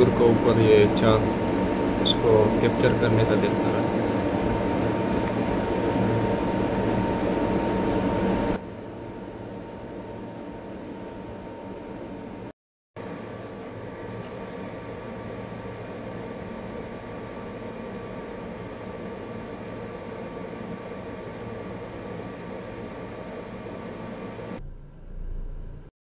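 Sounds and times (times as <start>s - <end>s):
faint steady whine: 0.0s - 25.9s
mechanical hum and hiss: 0.0s - 25.9s.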